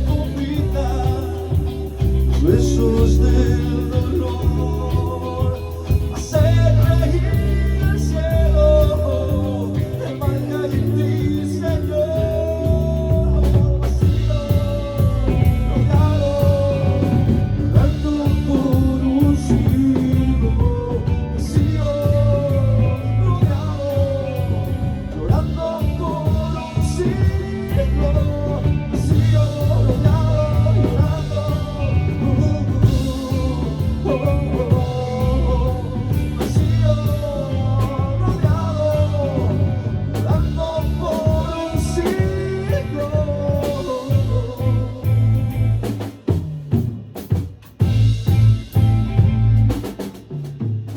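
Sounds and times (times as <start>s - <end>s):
person singing: 0.0s - 46.0s
electric guitar: 0.0s - 50.5s
rock band playing: 0.0s - 50.9s.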